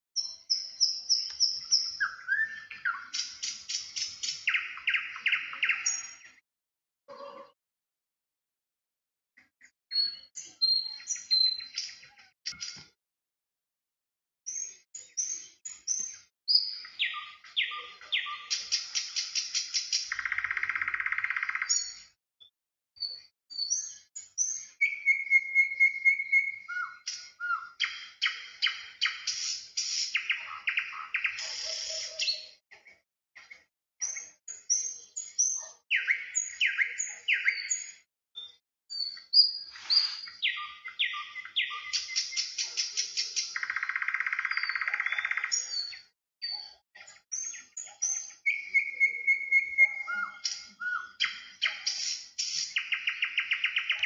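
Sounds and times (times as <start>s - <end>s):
songbirds chirping and trilling: 0.2s - 6.4s, 9.4s - 13.0s, 14.5s - 54.0s
whistled bird notes: 0.2s - 6.4s, 9.9s - 12.8s, 14.5s - 22.1s, 23.0s - 32.6s, 34.0s - 54.0s.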